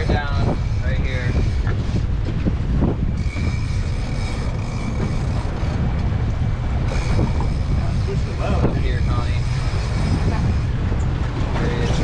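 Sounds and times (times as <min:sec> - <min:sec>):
outboard motors rumbling: 0:00.0 - 0:12.0
wind buffeting microphone: 0:00.0 - 0:12.0.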